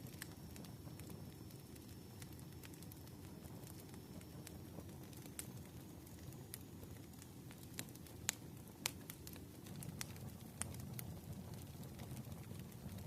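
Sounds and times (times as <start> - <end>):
faint low rumble: 0.0 - 13.0
fire crackling and popping: 0.0 - 13.0.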